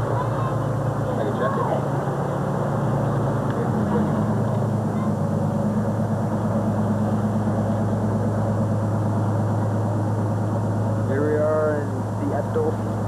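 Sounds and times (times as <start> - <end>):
engine idling drone: 0.0 - 13.0.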